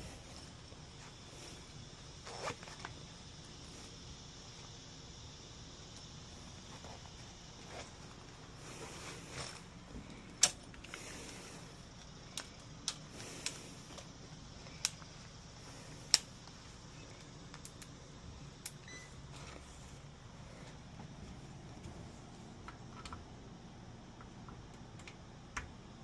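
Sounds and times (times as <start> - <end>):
faint background hiss: 0.0 - 26.0.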